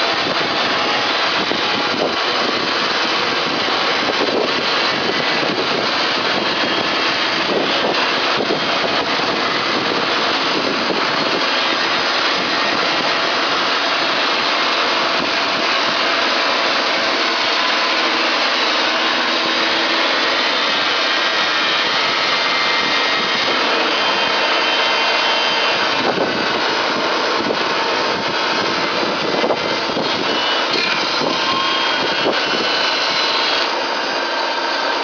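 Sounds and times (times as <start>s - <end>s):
sawmill engine and cutting noise: 0.0s - 35.0s.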